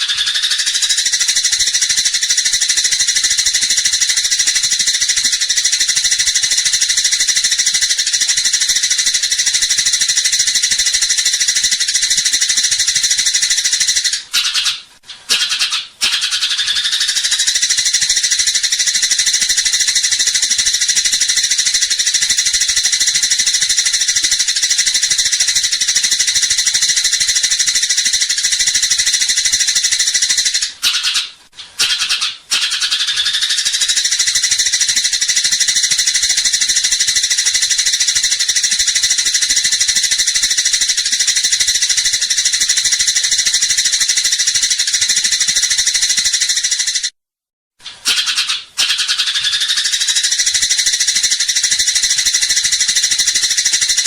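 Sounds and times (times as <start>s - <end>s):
sparrow chattering: 0.0s - 47.1s, 48.0s - 54.0s.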